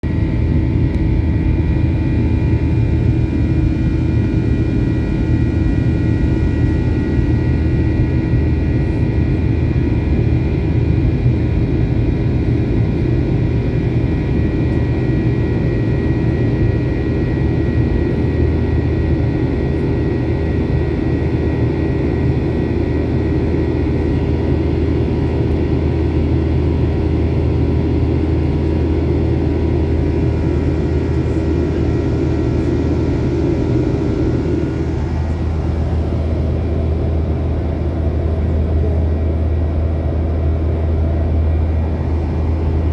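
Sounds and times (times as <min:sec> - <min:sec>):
airliner engines rumbling: 0:00.0 - 0:42.9.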